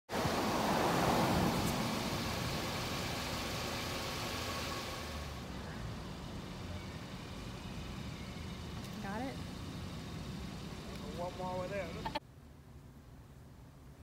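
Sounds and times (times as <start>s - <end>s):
car passing: 0.1s - 12.2s.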